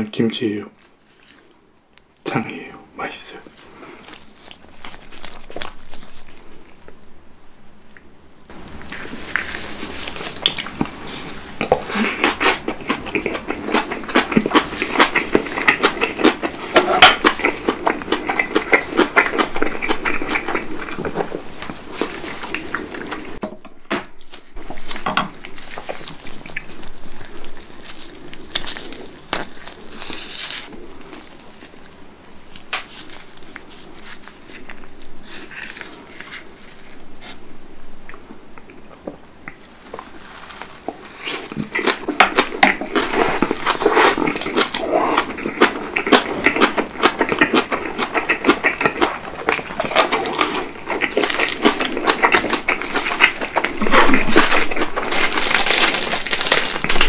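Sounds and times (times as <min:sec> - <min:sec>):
crunchy chewing: 0:03.5 - 0:23.4, 0:24.2 - 0:37.4, 0:38.1 - 0:57.0.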